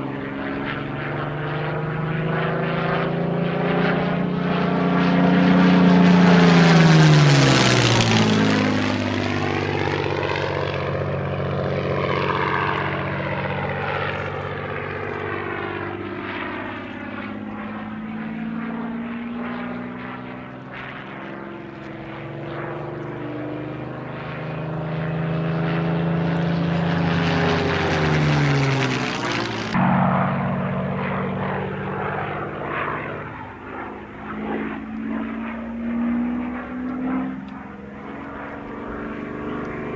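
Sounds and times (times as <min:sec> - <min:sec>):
propeller plane engine passing: 0:00.0 - 0:39.9.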